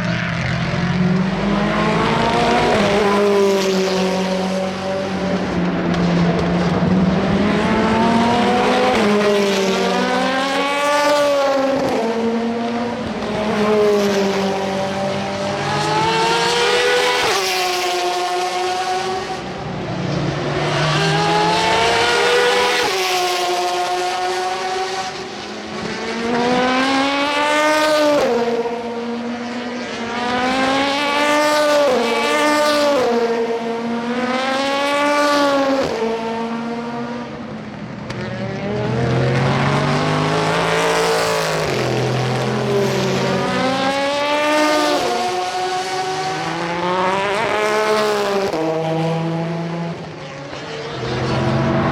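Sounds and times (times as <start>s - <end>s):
race cars passing: 0.0s - 51.9s.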